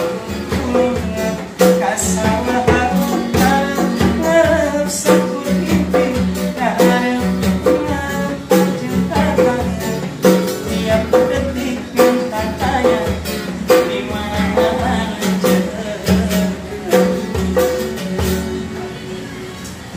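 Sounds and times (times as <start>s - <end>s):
hand drum beat: 0.0s - 18.7s
man singing: 0.0s - 19.1s
strummed acoustic guitar: 0.0s - 19.9s.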